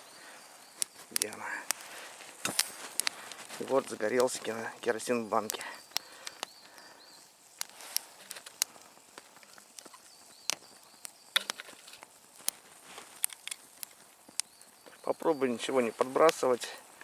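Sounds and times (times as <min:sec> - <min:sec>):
faint hiss: 0:00.0 - 0:17.0
fire crackling and snapping: 0:00.0 - 0:17.0.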